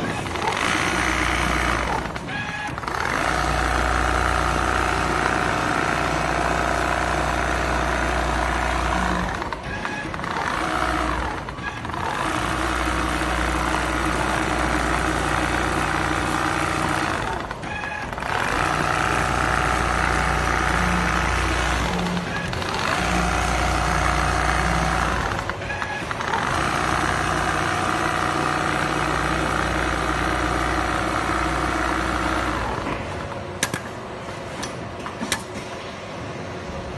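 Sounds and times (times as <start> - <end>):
sewing machine humming: 0.0 - 33.6.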